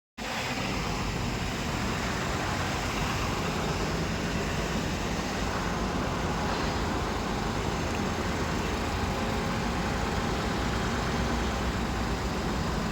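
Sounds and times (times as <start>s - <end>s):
milling machine running: 0.3s - 12.9s.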